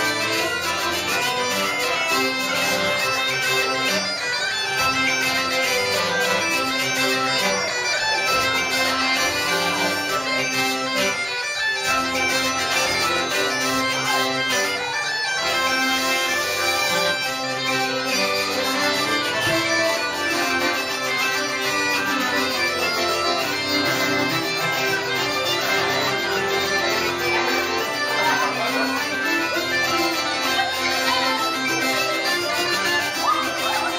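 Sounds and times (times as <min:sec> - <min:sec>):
bagpipes with drones: 0:00.0 - 0:33.9
band accompanying: 0:00.0 - 0:33.9.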